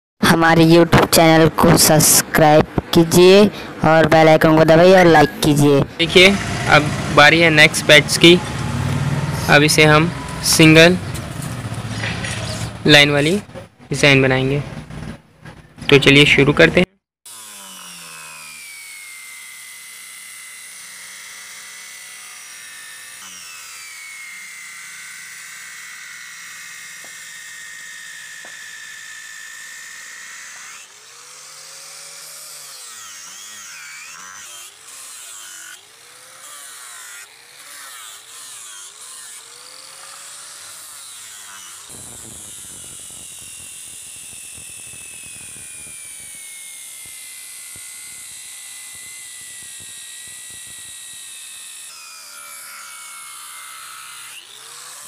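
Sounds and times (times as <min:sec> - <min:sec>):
angle grinder cutting wood: 0:01.6 - 0:15.2, 0:17.2 - 0:55.0.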